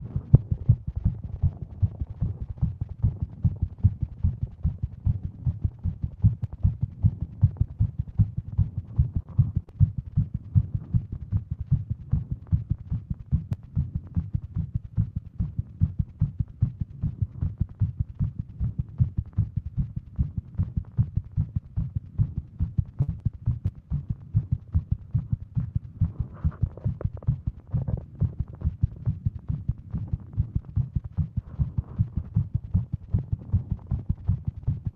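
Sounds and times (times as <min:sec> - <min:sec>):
fast heartbeat thumps: 0:00.0 - 0:34.9.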